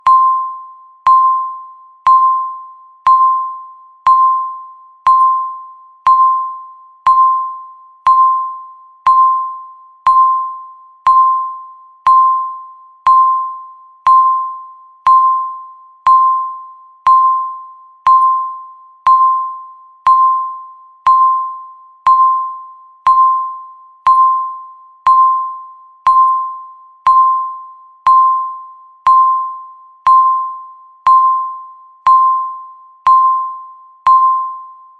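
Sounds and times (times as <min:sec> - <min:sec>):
countdown timer beeping: 0:00.0 - 0:34.8.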